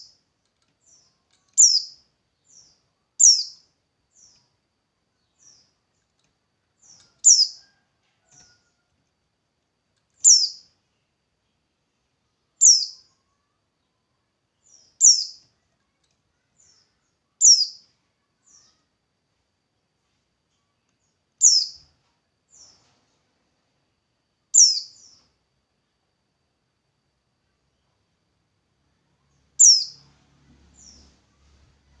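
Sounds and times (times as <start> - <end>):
faint bird chirps: 0.0 - 8.9, 10.1 - 23.0, 23.8 - 25.4, 28.8 - 32.0.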